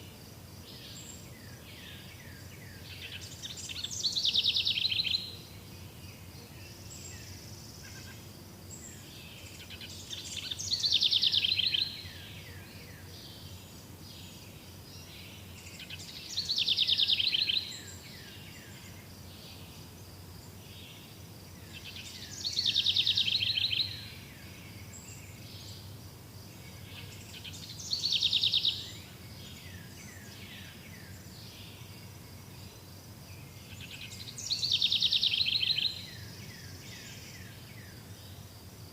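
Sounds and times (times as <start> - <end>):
faint high-pitched hiss: 0.0 - 38.9
forest background noise: 0.0 - 38.9
songbird singing: 0.0 - 38.9.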